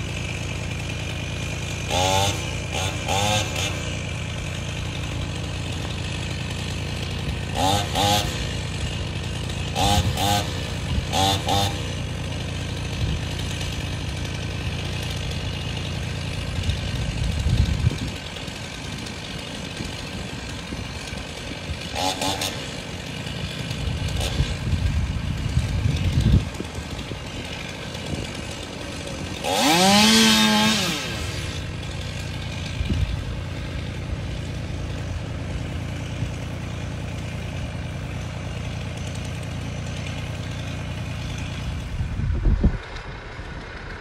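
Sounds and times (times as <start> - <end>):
chainsaw revving: 0.0 - 44.0.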